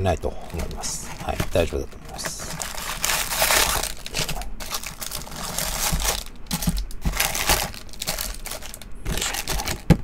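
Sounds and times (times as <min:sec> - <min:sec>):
foil packs rustling and crinkling: 0:00.4 - 0:10.0.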